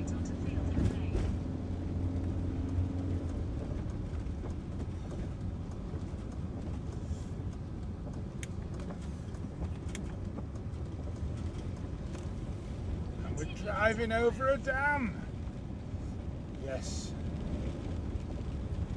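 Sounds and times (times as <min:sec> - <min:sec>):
engine and tyre rumble: 0:00.0 - 0:18.9.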